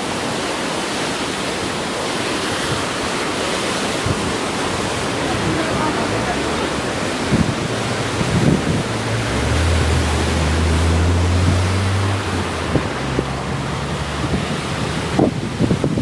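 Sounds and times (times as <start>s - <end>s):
rushing floodwater: 0.0s - 16.0s
wind buffeting microphone: 1.6s - 16.0s.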